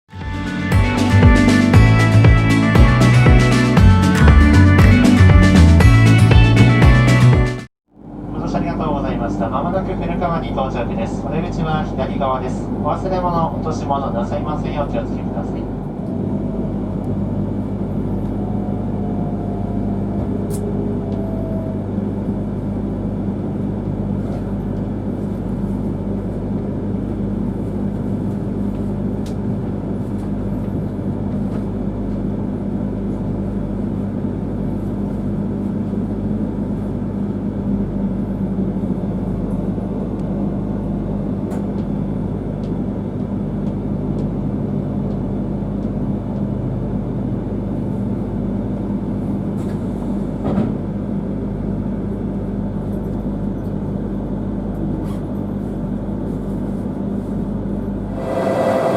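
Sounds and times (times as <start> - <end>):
train electrical hum and rumble: 8.0 - 58.9.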